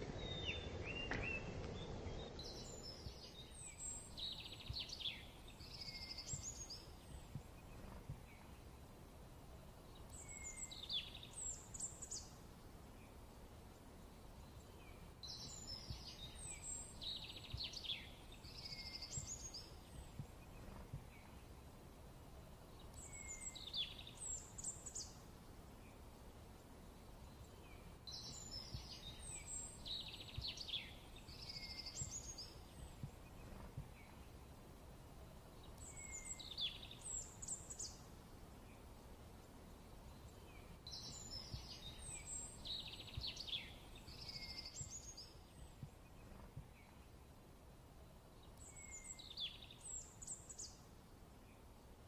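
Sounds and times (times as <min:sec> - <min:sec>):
faint background hiss: 0:00.0 - 0:52.0.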